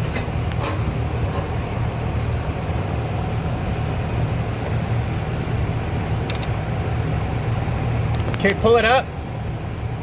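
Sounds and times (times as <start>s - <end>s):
workshop rumble: 0.0s - 10.0s.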